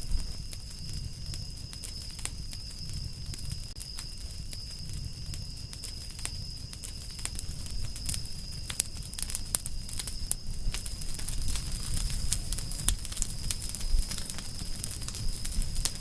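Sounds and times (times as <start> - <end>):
campfire crackling: 0.0 - 16.0
fire pops and snaps: 0.0 - 16.0
low rumble of flames: 0.0 - 16.0.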